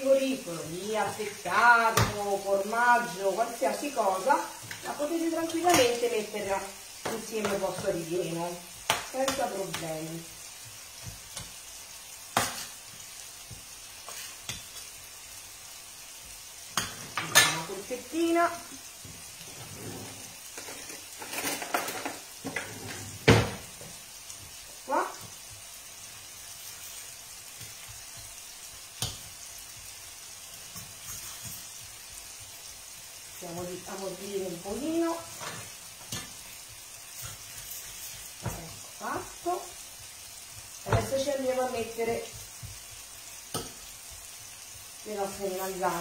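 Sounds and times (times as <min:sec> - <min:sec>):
eggplant frying in oil: 0:00.0 - 0:46.0.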